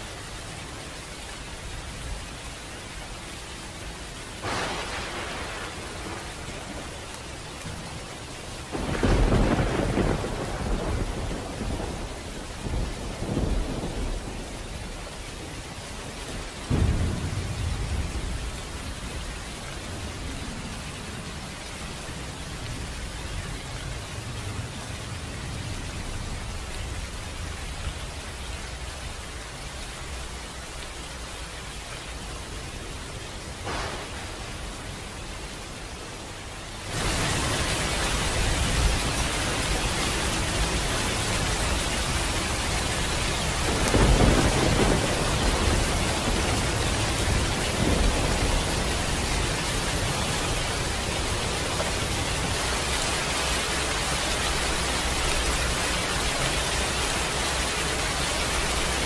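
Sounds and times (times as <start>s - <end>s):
steady rain: 0.0s - 59.0s
thunder rumbling: 4.4s - 28.0s, 33.4s - 57.3s.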